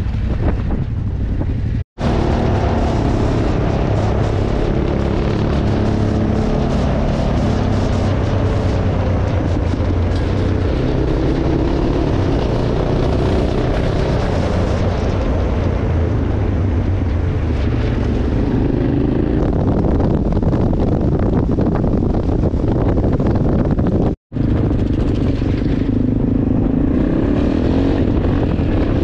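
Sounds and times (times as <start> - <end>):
constant rushing noise: 0.0 - 29.0
motorcycle engine running: 0.0 - 29.0.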